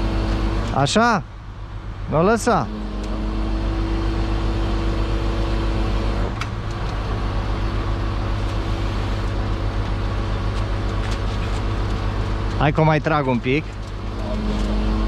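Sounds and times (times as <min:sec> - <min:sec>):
crane whine: 0:00.0 - 0:15.0
truck engine running: 0:00.0 - 0:15.0.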